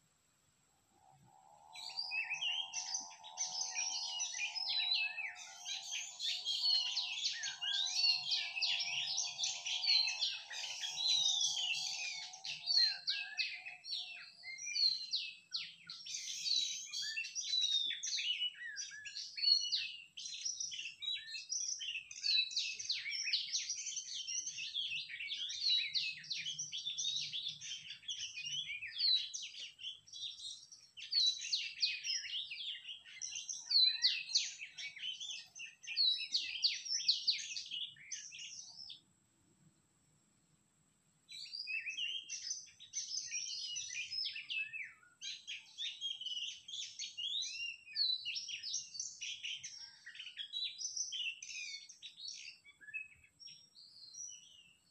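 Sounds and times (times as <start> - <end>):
bird whistling and chirping: 1.7 - 39.0, 41.3 - 54.9.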